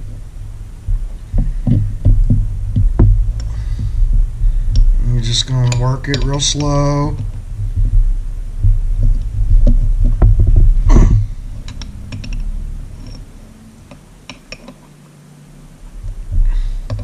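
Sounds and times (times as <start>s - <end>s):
dull low knocks: 0.0s - 17.0s.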